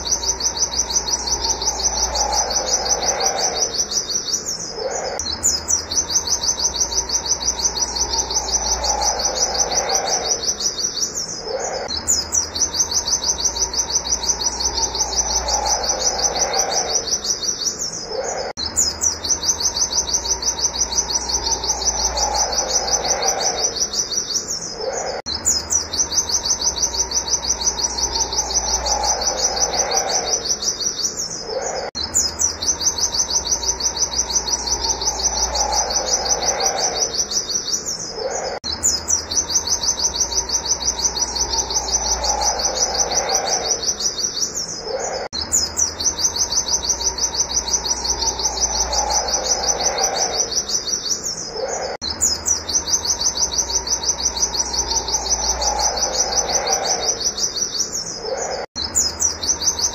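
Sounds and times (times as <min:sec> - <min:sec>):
bird chirping song: 0:00.0 - 0:59.9
lower falling bird call: 0:00.0 - 0:59.9.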